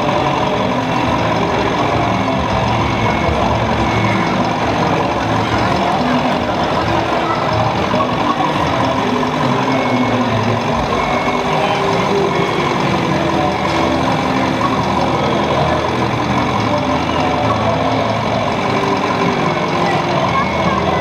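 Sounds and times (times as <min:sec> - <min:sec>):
simulated diesel engine idling: 0:00.0 - 0:21.0.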